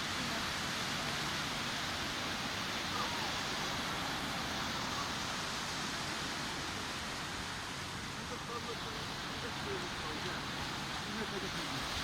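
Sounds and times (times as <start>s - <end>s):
surf breaking on a beach: 0.0s - 12.0s.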